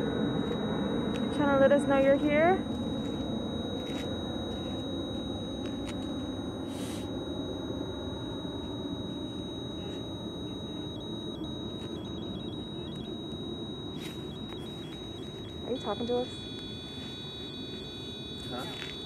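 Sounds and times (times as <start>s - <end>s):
high-pitched electronic alert tone: 0.0s - 19.0s.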